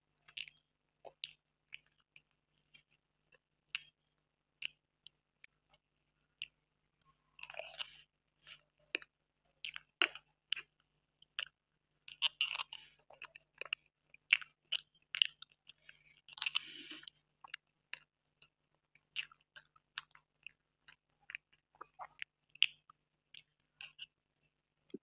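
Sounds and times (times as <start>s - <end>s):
person chewing cake: 0.2s - 4.0s, 4.6s - 25.0s.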